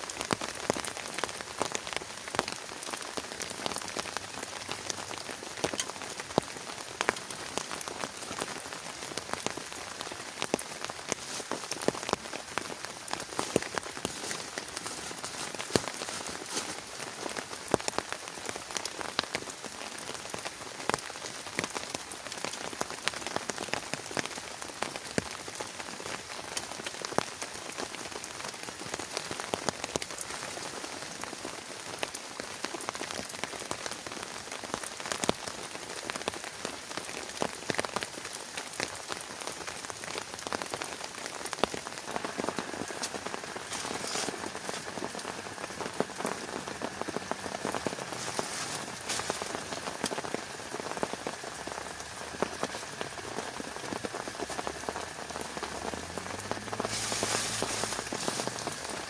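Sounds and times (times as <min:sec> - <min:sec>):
heavy rain falling: 0:00.0 - 0:59.0
raindrops tapping a surface: 0:00.0 - 0:59.0.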